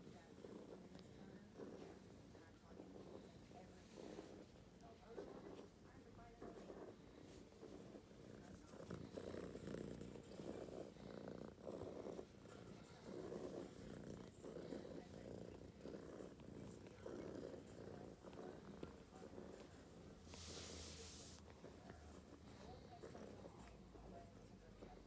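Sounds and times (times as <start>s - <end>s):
kitten purring: 0.0s - 25.0s.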